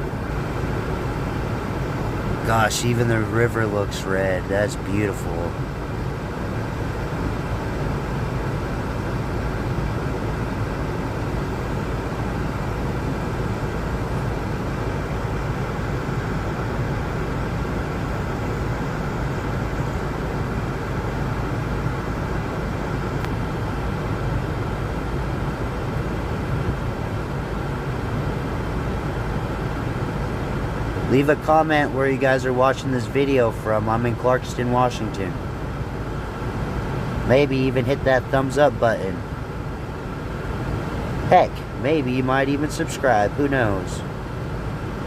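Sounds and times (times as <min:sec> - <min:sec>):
low rumbling noise: 0:00.0 - 0:45.0.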